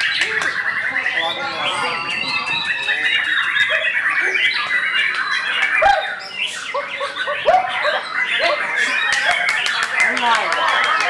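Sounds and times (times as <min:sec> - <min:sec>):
bird harsh calls: 0:00.0 - 0:11.0
songbirds singing: 0:00.0 - 0:11.0.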